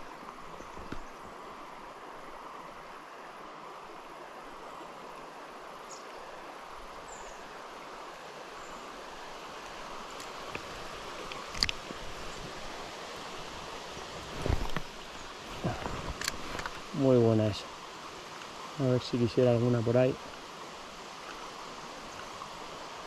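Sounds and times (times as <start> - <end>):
flowing river water: 0.0 - 23.0.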